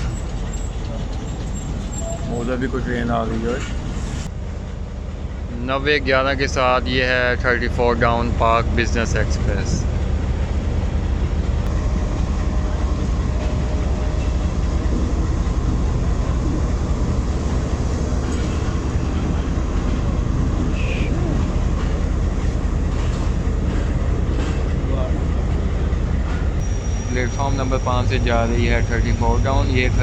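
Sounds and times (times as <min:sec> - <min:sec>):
train passing with low rumble: 0:00.0 - 0:30.0.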